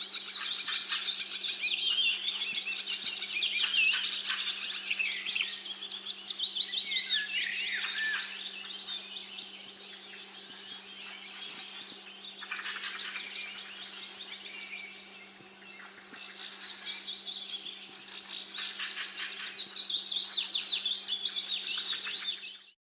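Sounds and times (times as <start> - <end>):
small birds chirping and trilling: 0.0 - 22.8.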